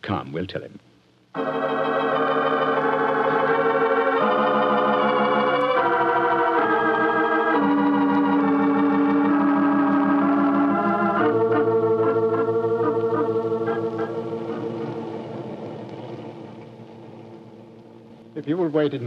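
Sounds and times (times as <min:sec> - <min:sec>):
organ playing held chords: 0:01.4 - 0:19.0.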